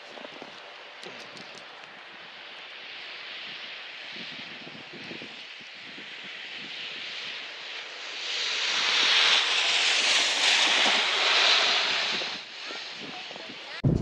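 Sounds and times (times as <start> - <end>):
tyres hissing on wet road: 0.0 - 13.8.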